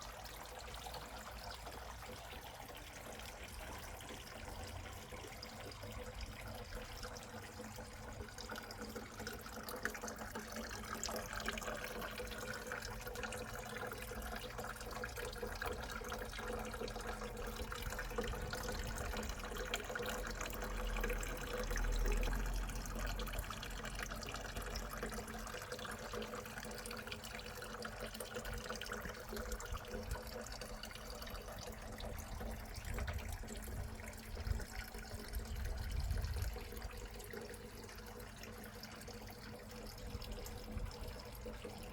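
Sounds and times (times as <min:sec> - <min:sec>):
running water trickling: 0:00.0 - 0:41.9.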